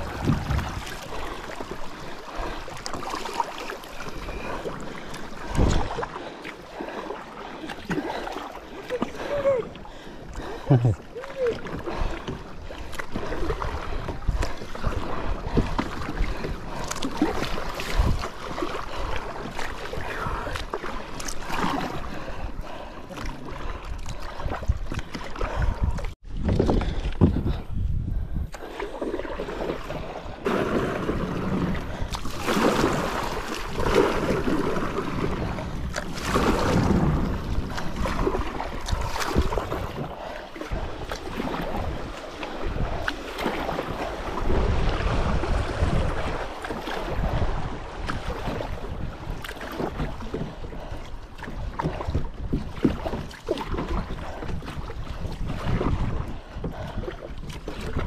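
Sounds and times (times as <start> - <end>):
wind rumbling on microphone: 0.0 - 3.1, 4.0 - 6.9, 9.0 - 58.0
water splashing around kayak: 0.0 - 58.0.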